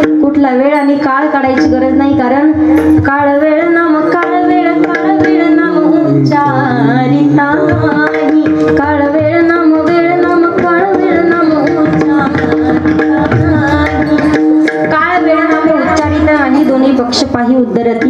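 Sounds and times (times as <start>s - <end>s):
tabla: 0.0s - 18.0s
woman singing devotional song: 0.0s - 18.0s.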